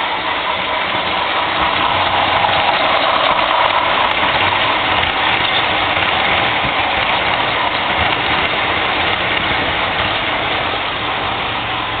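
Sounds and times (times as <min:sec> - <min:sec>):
model train wheels rumbling on rails: 0:00.0 - 0:12.0.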